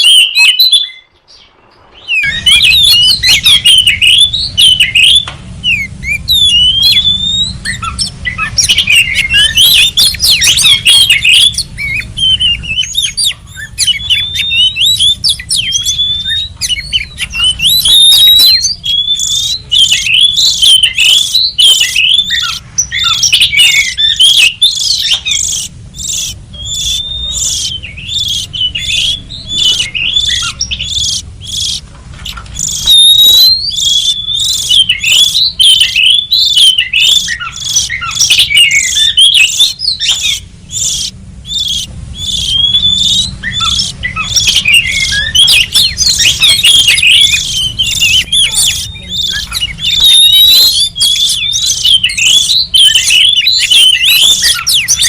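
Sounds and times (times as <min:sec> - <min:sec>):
bird singing whistled phrases: 0:00.0 - 0:55.0
steady low hum: 0:01.0 - 0:55.0.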